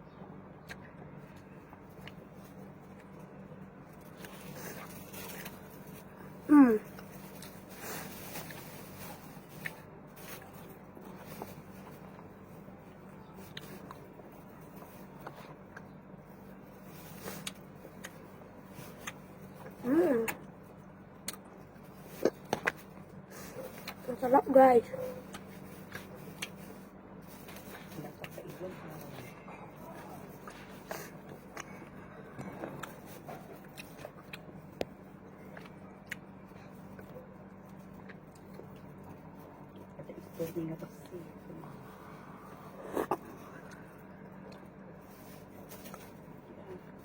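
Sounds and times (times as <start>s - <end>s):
steady low hum: 0.0s - 47.0s
person chewing: 0.6s - 8.9s, 13.0s - 24.0s, 25.2s - 28.4s, 29.0s - 40.0s, 41.8s - 47.0s.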